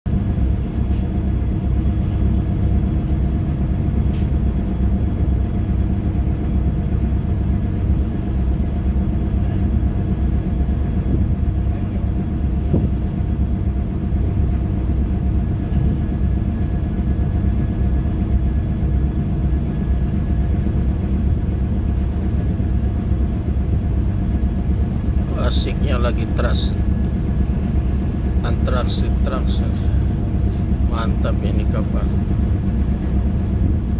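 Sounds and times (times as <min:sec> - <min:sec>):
large vehicle engine rumble: 0:00.1 - 0:33.9.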